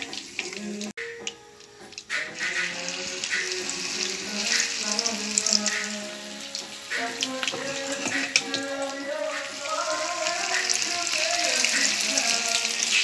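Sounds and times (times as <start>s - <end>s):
background music of held notes: 0.0s - 13.0s
hot oil sizzling in a wok: 0.0s - 13.0s.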